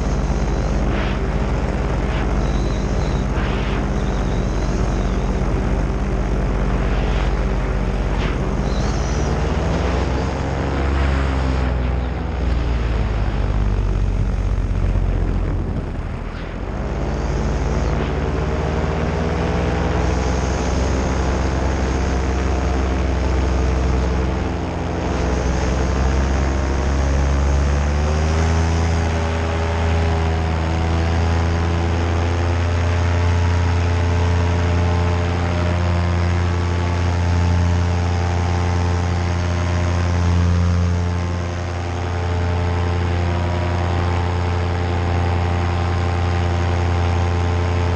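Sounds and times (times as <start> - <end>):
paramotor engine and propeller: 0.0 - 47.9.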